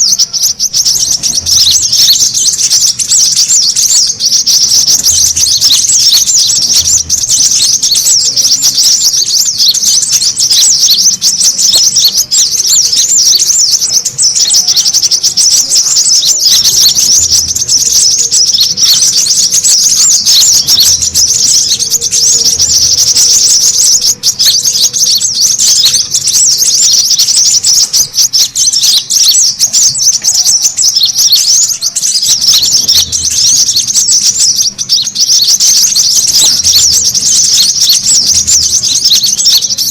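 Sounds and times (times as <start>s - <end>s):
bird rapid high-pitched chirps: 0.0s - 39.9s.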